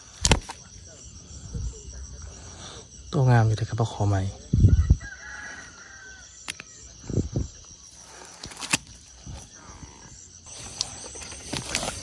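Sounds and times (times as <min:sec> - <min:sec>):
faint chirps: 0:00.0 - 0:12.0
insect chirring: 0:00.0 - 0:12.0.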